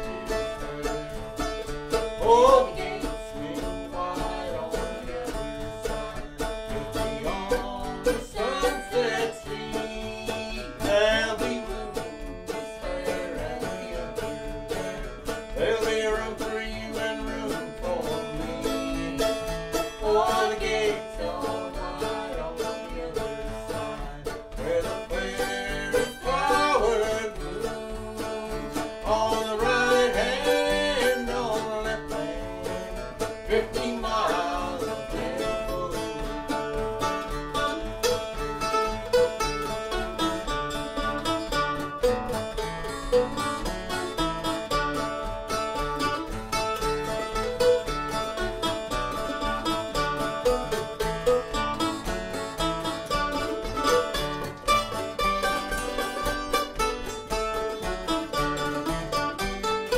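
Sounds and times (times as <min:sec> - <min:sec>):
acoustic guitar: 0:00.0 - 0:59.9
mandolin: 0:00.0 - 0:59.9.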